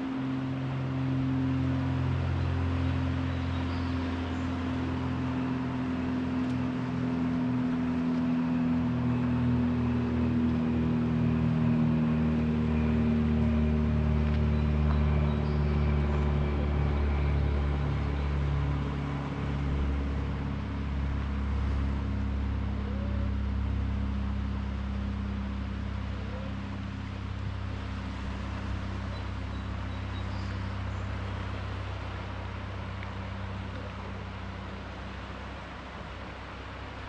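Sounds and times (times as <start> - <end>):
surf: 0.0 - 37.0
vehicle engine running: 0.0 - 37.0
wind: 0.0 - 37.0.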